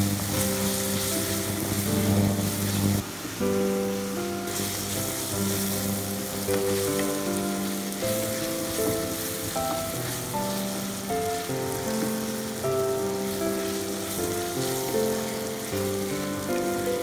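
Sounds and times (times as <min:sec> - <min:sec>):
wooden spatula stirring: 0:00.0 - 0:03.1, 0:04.0 - 0:17.0
vegetables sizzling in oil: 0:00.0 - 0:17.0.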